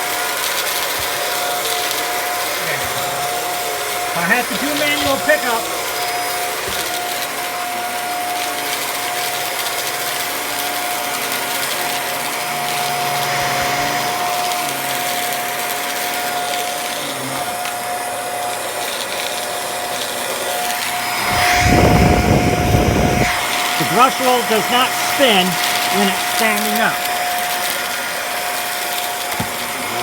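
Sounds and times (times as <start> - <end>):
vacuum cleaner whine: 0.0 - 30.0.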